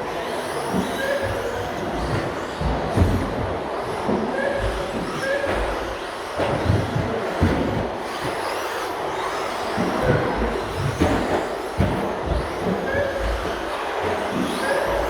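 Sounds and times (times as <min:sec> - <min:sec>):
rc truck motors whining: 0:00.0 - 0:15.0.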